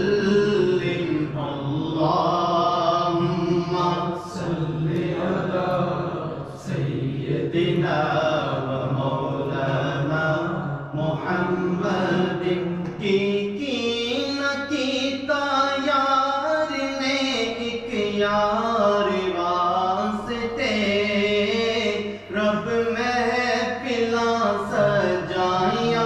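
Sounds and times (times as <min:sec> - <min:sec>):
man chanting: 0:00.0 - 0:26.0.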